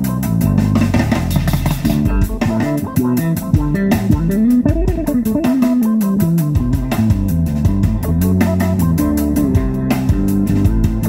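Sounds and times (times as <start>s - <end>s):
guitar playing: 0.0s - 11.0s
sliding bass line: 0.0s - 11.0s
steady drum beat: 0.0s - 11.0s.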